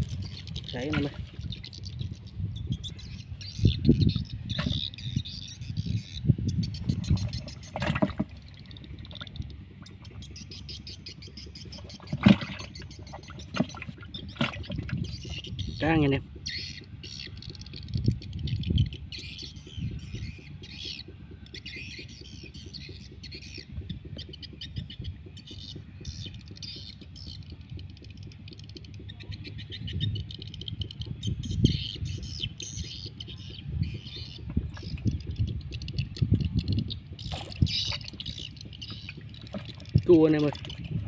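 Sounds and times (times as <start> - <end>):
birds chirping: 0.0 - 41.0
low thumps and rustling: 0.0 - 41.0.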